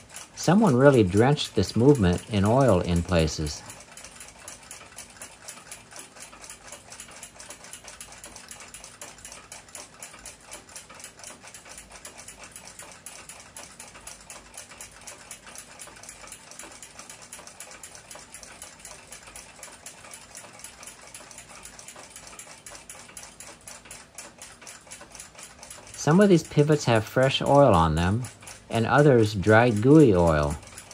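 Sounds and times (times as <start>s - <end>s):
clock ticking: 0.0s - 30.9s.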